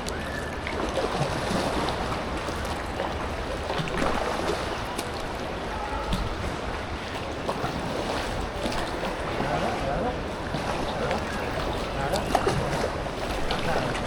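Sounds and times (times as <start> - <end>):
paddle splashes and knocks: 0.0 - 14.0
rushing creek water: 0.0 - 14.0.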